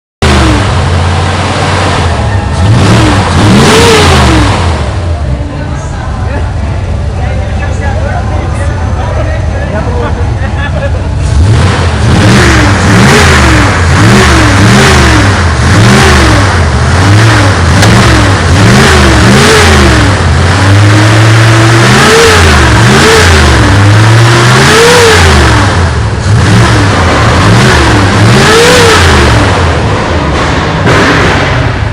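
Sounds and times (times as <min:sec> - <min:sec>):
car engine revving: 0:00.2 - 0:31.9.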